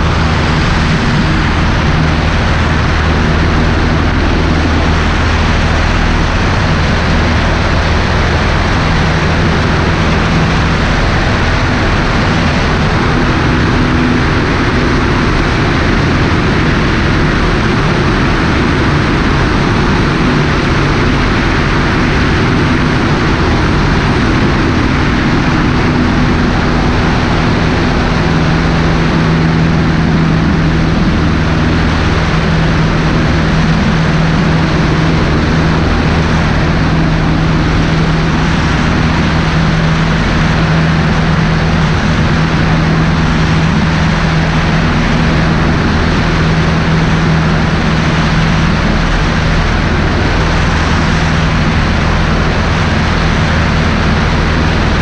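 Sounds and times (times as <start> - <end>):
airplane engine and propeller droning: 0.0 - 55.0
wind rushing across camera: 0.0 - 55.0.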